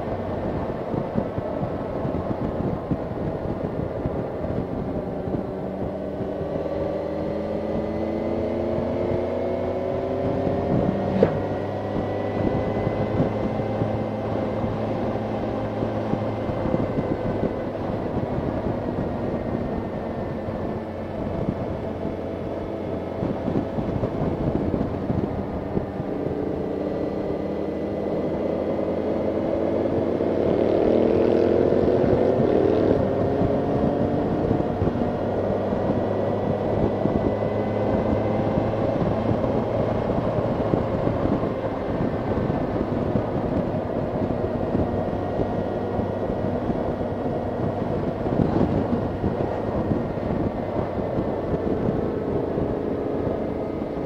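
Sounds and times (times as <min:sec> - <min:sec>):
motorcycle engine running: 0:00.0 - 0:54.0
wind rushing: 0:00.0 - 0:54.0.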